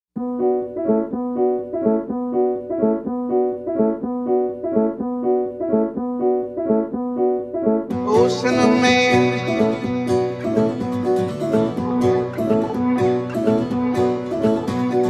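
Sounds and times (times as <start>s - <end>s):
repeating keyboard music: 0.2s - 15.0s.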